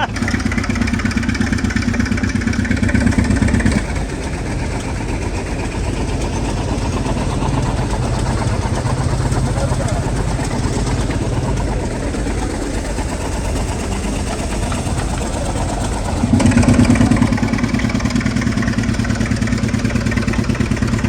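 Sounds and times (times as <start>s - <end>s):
air compressor engine running: 0.0s - 21.0s.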